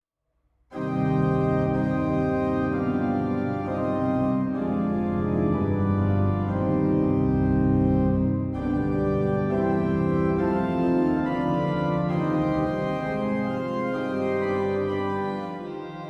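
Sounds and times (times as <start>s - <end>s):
pipe organ chords: 0.7s - 16.0s.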